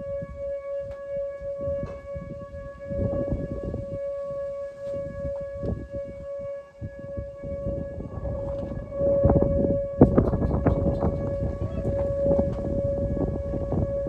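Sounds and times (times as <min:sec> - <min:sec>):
warning siren steady tone: 0:00.0 - 0:14.0
wind rumbling on microphone: 0:00.0 - 0:14.0.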